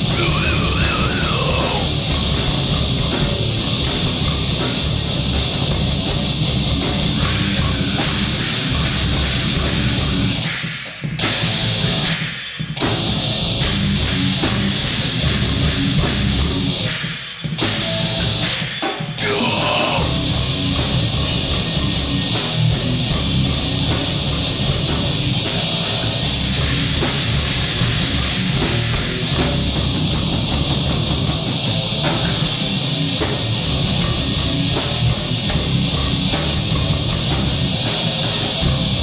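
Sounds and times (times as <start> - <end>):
live heavy rock band: 0.0 - 39.0.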